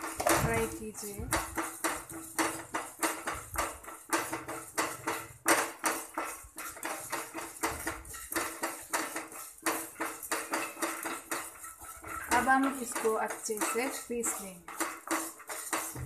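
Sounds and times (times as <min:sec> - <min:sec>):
wooden spatula stirring dry seeds: 0:00.0 - 0:16.0.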